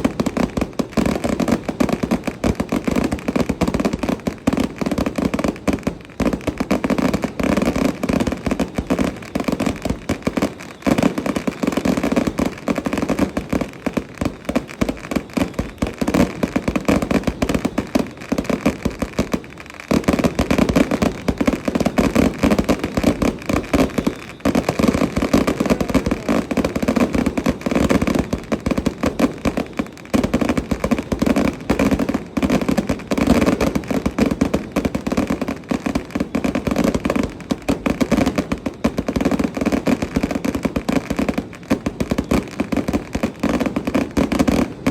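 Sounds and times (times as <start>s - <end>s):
firecrackers popping: 0.0s - 44.9s.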